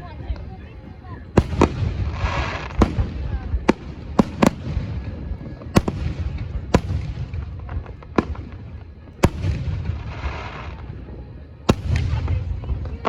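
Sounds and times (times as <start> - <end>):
fireworks bangs: 0.0 - 13.0
fireworks crackles: 0.0 - 13.0.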